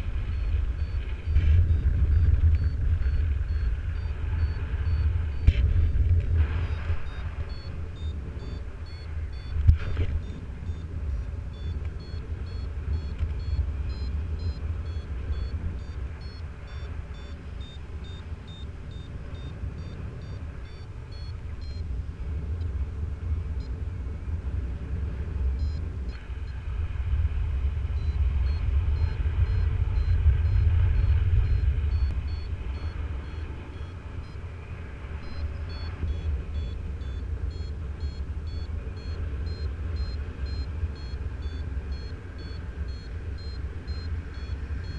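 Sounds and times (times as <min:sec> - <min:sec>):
variometer beeping: 0:00.0 - 0:23.8, 0:25.3 - 0:26.6, 0:27.8 - 0:44.9
wind rumble on microphone: 0:00.0 - 0:44.9.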